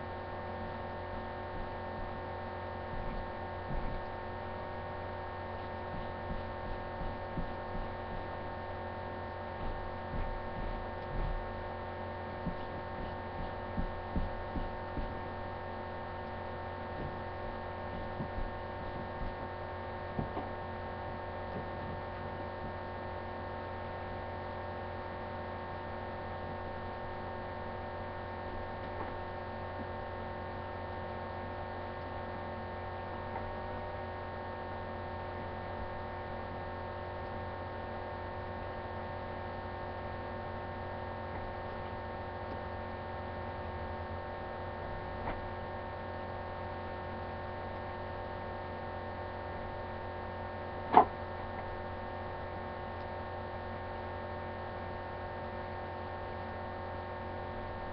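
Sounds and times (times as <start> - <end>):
steady hum of held tones: 0.0 - 57.9.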